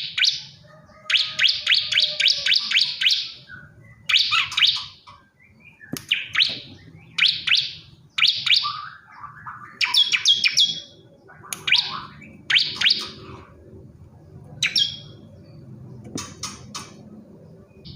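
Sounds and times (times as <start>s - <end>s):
bird chirping sharp phrases: 0.0s - 17.9s
faint low hum: 0.5s - 17.9s.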